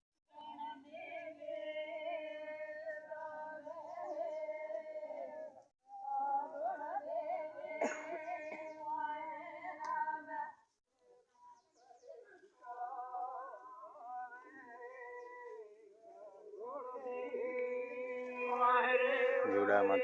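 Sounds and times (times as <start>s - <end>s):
people singing devotional song: 0.3s - 20.0s.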